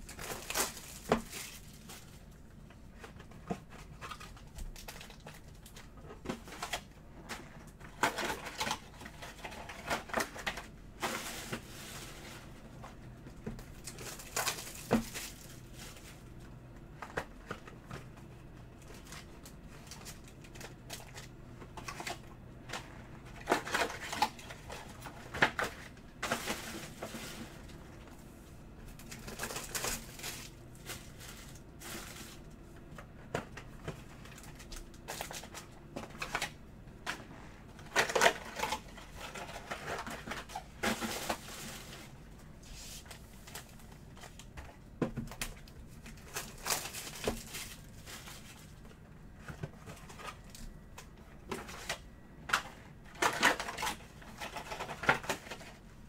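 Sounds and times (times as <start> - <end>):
cardboard and foil rustling: 0.0 - 56.0.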